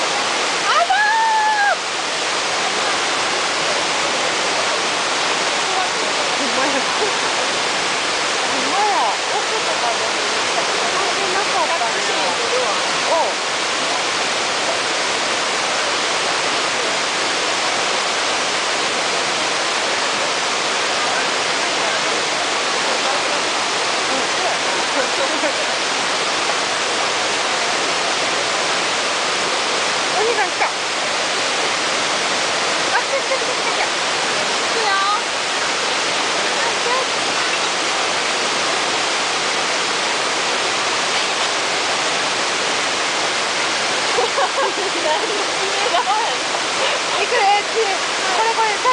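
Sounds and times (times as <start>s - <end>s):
waterfall rushing over rocks: 0.0s - 48.9s.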